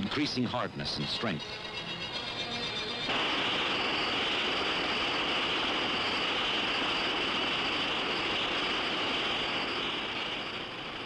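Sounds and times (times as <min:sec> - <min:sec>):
industrial equipment roaring: 0:00.0 - 0:11.0.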